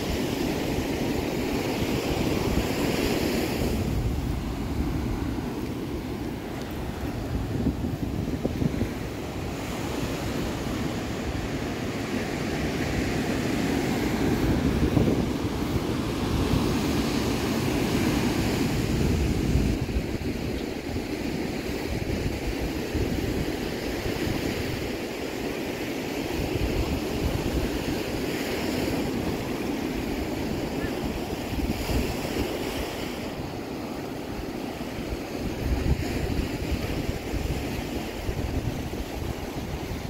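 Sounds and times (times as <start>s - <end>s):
ocean surf breaking on beach: 0.0s - 40.0s
wind buffeting microphone: 0.0s - 40.0s.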